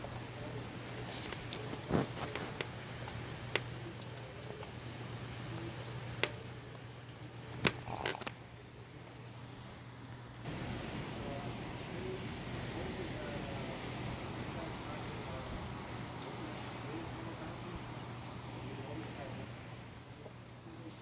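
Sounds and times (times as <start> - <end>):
low steady hum: 0.0 - 21.0
rain hissing: 0.0 - 21.0.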